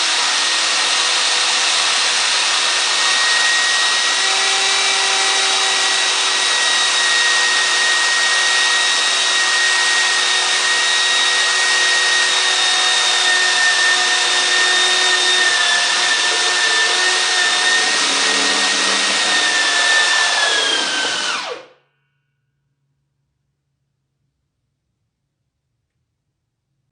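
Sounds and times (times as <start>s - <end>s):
power tool motor whining: 0.0s - 21.7s.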